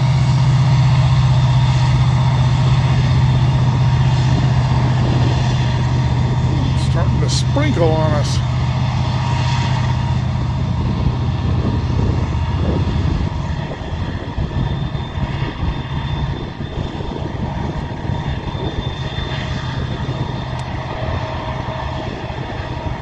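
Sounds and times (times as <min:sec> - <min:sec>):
diesel locomotive engines droning: 0:00.0 - 0:23.0
freight cars rumbling by: 0:00.0 - 0:23.0.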